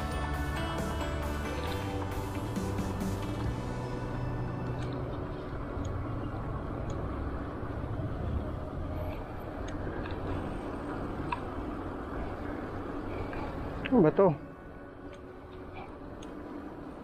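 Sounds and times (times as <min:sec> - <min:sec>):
bicycle road noise: 0:00.0 - 0:17.0.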